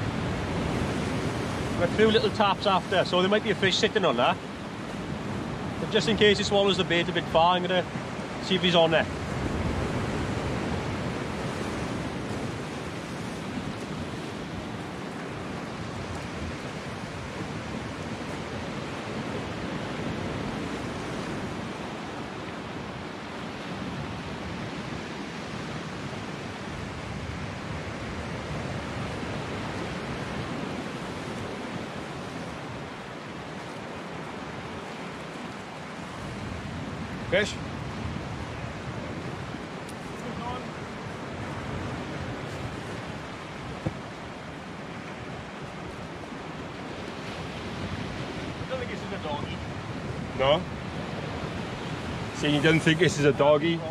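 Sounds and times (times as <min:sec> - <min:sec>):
waves breaking on rocky shore: 0:00.0 - 0:53.9.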